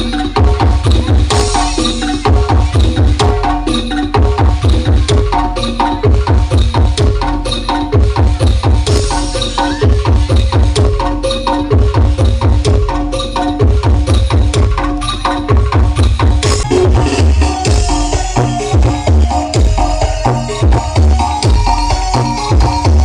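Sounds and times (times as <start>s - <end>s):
dance remix music with heavy bass: 0.0s - 23.0s.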